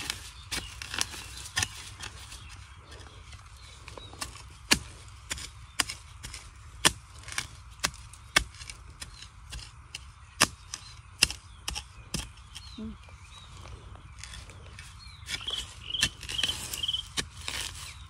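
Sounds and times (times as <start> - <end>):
spade chopping dry ground: 0.0 - 12.8, 14.1 - 18.0.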